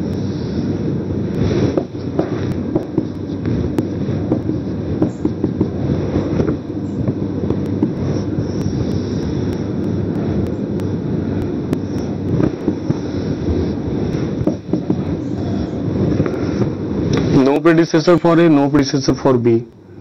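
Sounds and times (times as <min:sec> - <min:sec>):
microphone rumble and crackle: 0:00.0 - 0:20.0.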